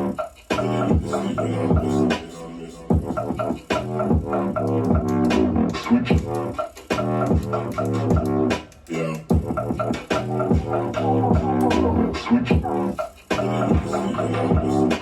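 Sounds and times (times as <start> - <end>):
electronic bass music: 0.0 - 15.0.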